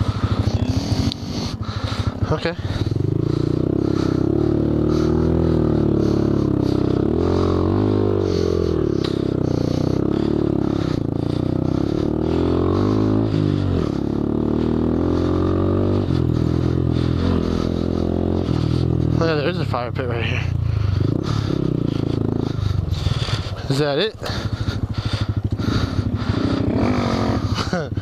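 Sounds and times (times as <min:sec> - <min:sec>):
small motorcycle engine revving: 0:00.0 - 0:28.0.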